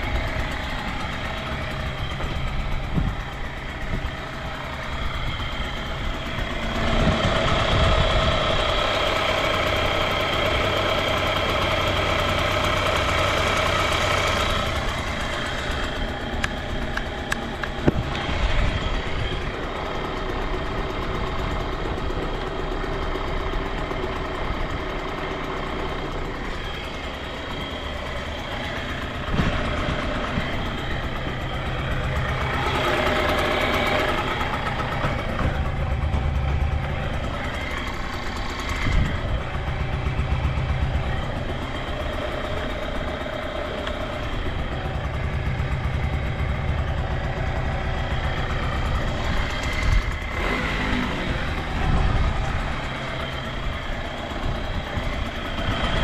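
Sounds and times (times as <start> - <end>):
engine knocks: 0.0 - 56.0
two-stroke engine idling: 0.0 - 56.0.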